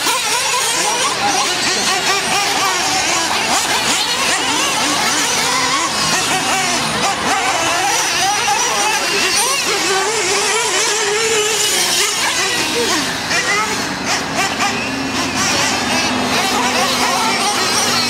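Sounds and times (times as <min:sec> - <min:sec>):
rc truck engines whining: 0:00.0 - 0:18.0.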